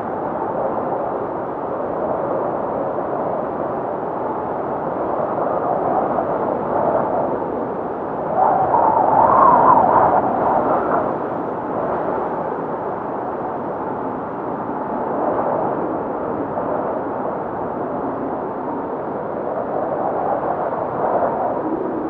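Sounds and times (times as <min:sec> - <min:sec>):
blizzard wind howling: 0:00.0 - 0:22.0.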